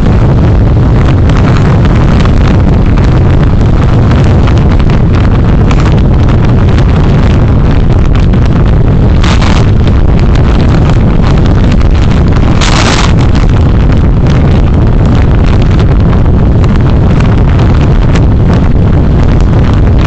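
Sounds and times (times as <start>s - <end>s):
car engine and road rumble: 0.0s - 20.0s
wind buffeting microphone: 0.0s - 20.0s.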